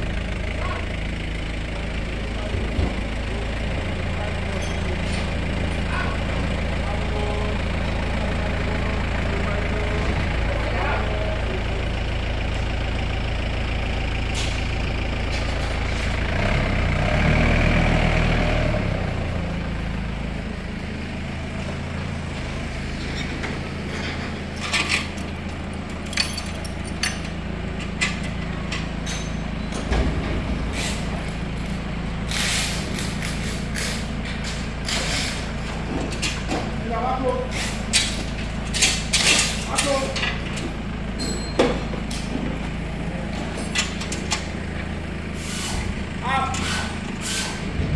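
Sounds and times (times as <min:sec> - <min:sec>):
heavy vehicle engine running: 0:00.0 - 0:47.9.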